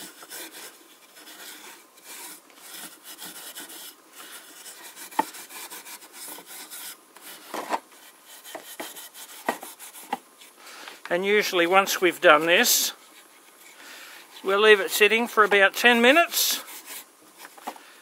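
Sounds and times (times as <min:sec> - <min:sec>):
steel wool rubbing wood: 0:00.0 - 0:10.6, 0:11.3 - 0:17.6.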